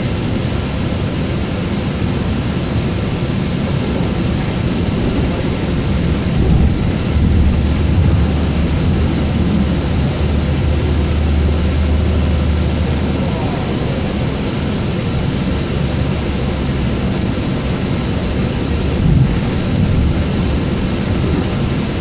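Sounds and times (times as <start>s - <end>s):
train rumbling and rushing: 0.0s - 22.0s.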